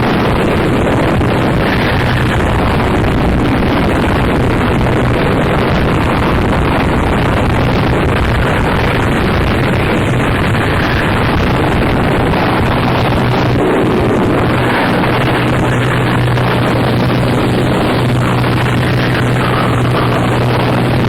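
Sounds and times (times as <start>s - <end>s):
distorted harsh noise music: 0.0s - 21.0s
steady low hum: 0.0s - 21.0s.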